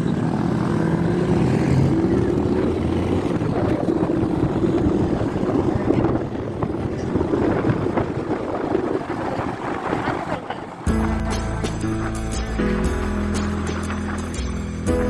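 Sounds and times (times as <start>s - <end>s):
road and wind rumble: 0.0s - 15.0s
vehicle engine droning: 0.0s - 15.0s.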